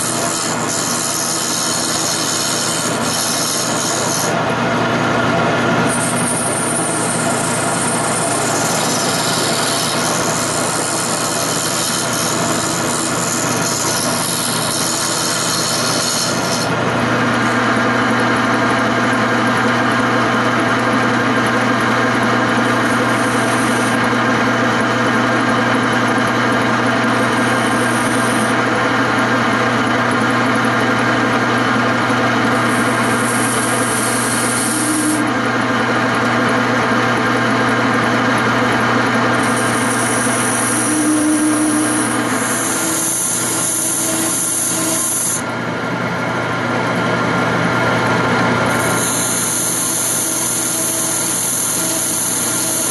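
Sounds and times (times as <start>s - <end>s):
turning tool scraping wood: 0.0s - 4.6s, 5.8s - 20.0s, 21.5s - 30.2s, 32.4s - 36.7s, 38.8s - 45.6s, 48.7s - 52.9s
wood lathe running: 0.0s - 52.9s.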